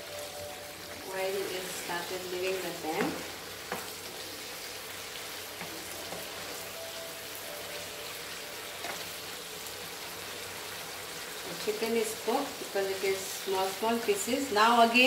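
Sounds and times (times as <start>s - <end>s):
curry sizzling in a pan: 0.0s - 15.0s.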